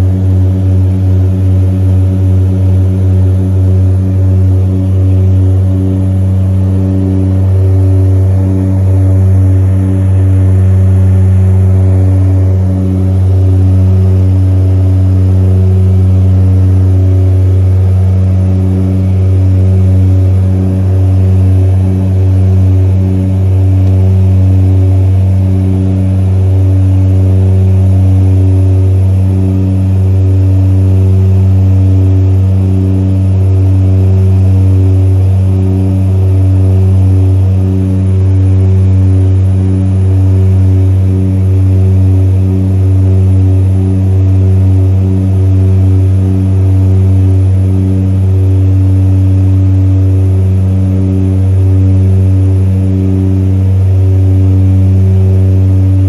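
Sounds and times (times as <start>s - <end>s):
propeller engine droning in cabin: 0.0s - 56.0s.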